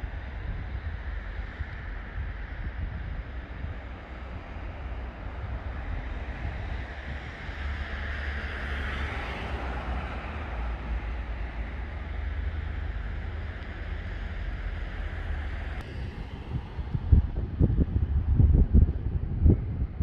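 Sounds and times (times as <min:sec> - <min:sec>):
wind blowing: 0:00.0 - 0:20.0
wind buffeting microphone: 0:00.0 - 0:20.0.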